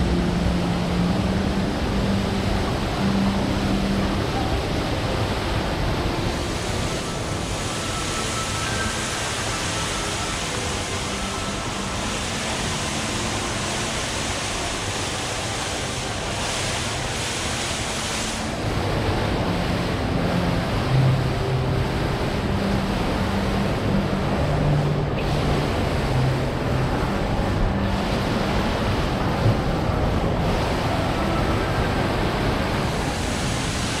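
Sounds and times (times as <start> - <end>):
indoor fountain water rushing: 0.0 - 34.0.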